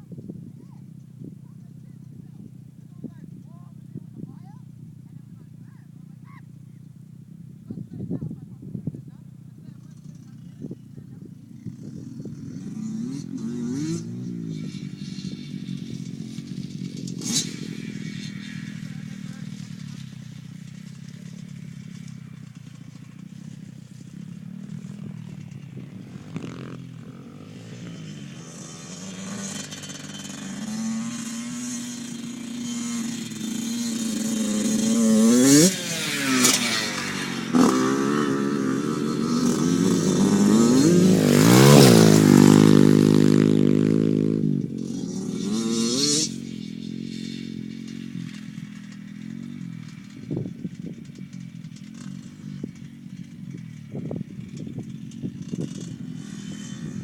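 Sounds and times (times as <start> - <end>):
dirt bike engines revving by: 0.0 - 57.0.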